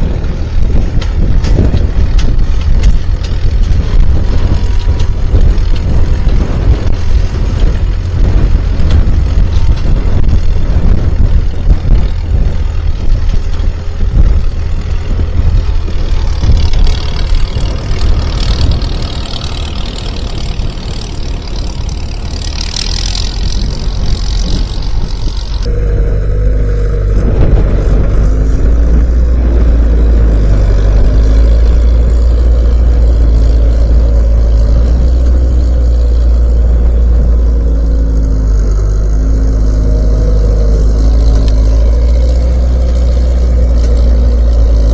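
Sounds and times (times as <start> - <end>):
loader engine running: 0.0 - 44.9.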